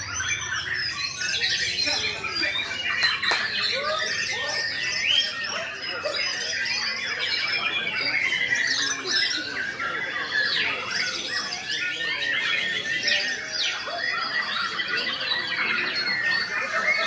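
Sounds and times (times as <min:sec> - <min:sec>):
birds singing whistles and trills: 0:00.0 - 0:17.0.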